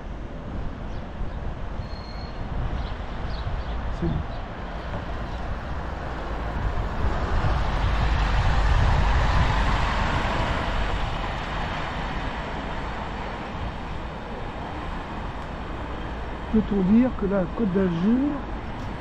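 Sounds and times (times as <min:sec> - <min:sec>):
bicycle road noise: 0:00.0 - 0:19.0
wind rushing over microphone: 0:00.0 - 0:19.0.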